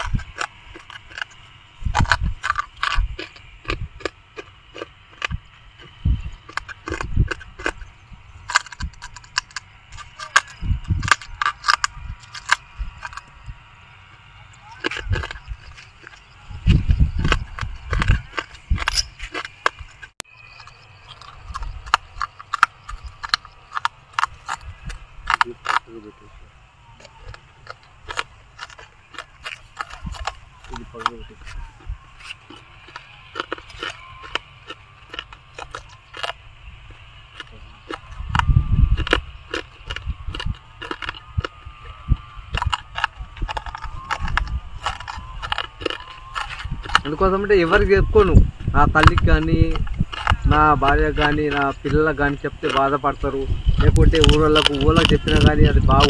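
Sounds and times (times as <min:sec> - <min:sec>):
glass crunching between teeth: 0:00.0 - 0:26.2, 0:27.0 - 0:56.0.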